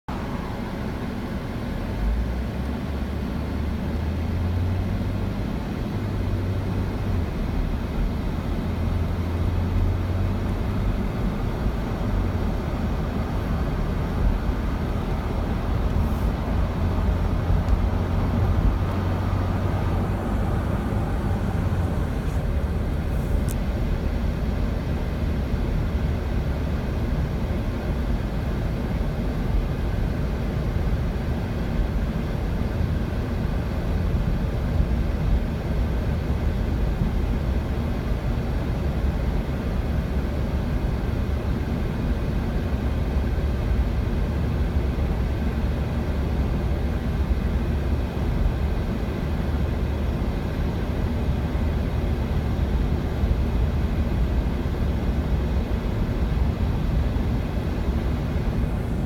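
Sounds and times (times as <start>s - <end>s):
vehicle engine hum: 0.0s - 59.0s.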